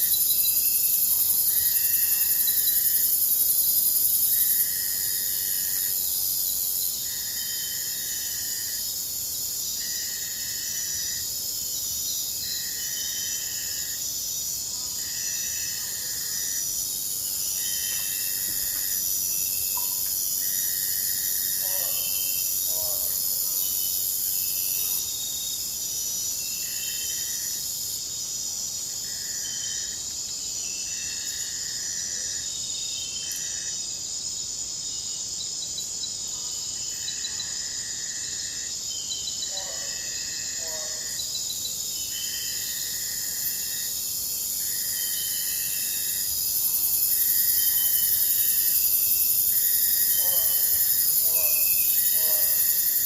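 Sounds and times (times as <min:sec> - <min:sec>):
crickets and insects trilling: 0:00.0 - 0:53.0
pulsing insect chirp: 0:00.0 - 0:53.0.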